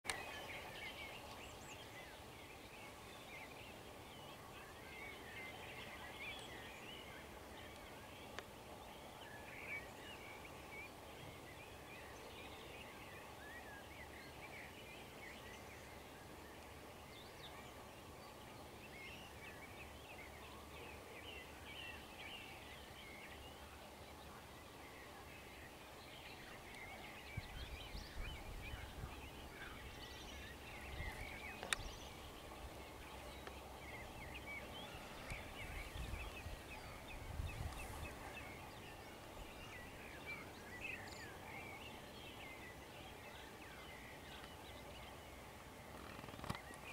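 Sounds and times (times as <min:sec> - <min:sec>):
birds chirping and trilling: 0:00.1 - 0:46.9.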